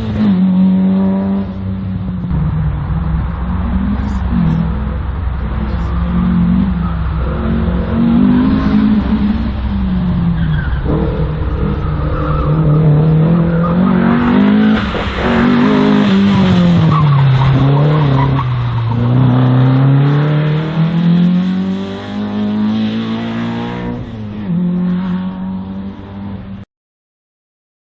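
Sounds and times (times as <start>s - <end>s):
race car engine revving: 0.0s - 26.6s.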